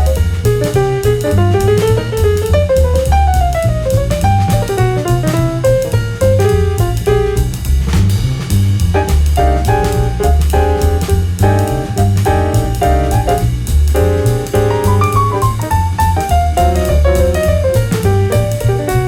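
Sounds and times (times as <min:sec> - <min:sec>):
jazz piano with bass and drums: 0:00.0 - 0:19.0.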